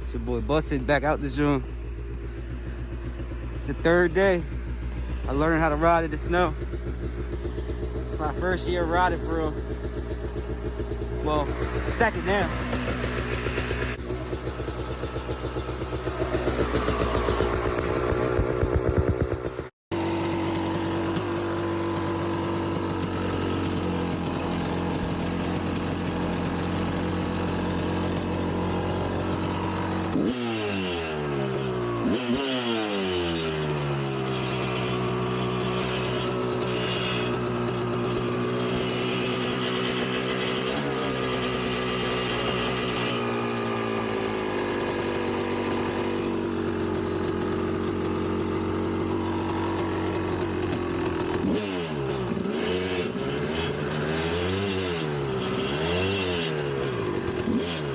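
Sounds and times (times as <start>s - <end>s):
dirt bike engine idling and revving: 0.0s - 57.9s.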